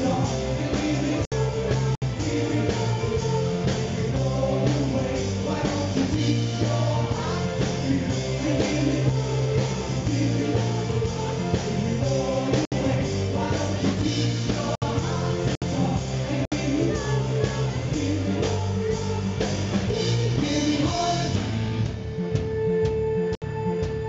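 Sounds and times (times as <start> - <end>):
man singing: 0.0 - 21.4
live pop-rock band: 0.0 - 24.0.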